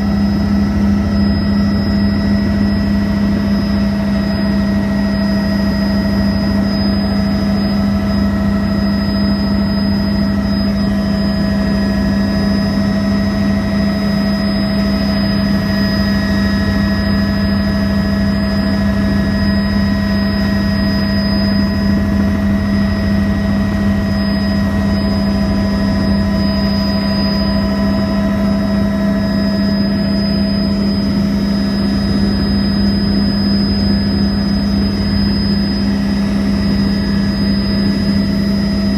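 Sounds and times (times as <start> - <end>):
helicopter cabin drone: 0.0 - 38.9
high-pitched whines: 0.0 - 38.9.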